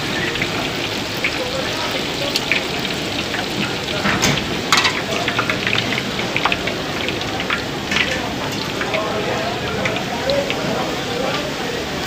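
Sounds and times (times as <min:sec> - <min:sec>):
oil crackling and popping: 0:00.0 - 0:11.6
hot oil sizzling in a wok: 0:00.0 - 0:12.0.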